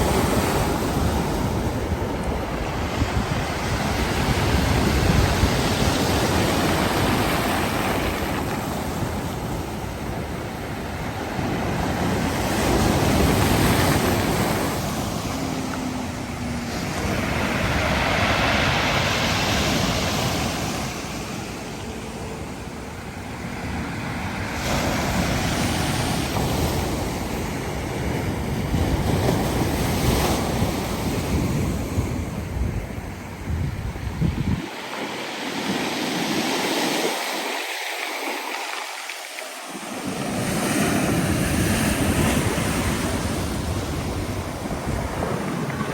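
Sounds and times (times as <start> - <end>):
waves breaking on shore: 0.0 - 45.9
wind buffeting microphone: 0.0 - 45.9.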